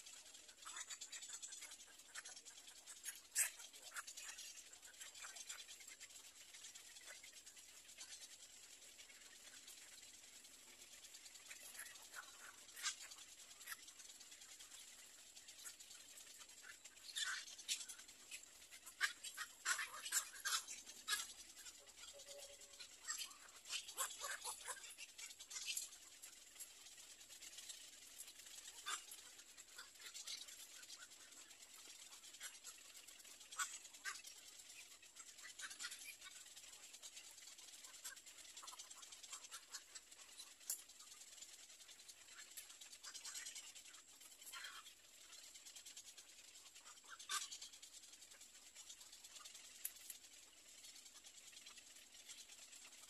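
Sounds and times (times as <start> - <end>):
chicks clicking and rustling in nest: 0.0 - 53.0.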